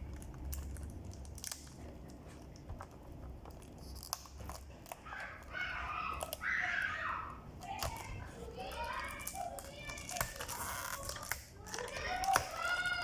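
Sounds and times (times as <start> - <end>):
wrapping crinkling and tearing: 0.0 - 7.0, 7.6 - 13.0.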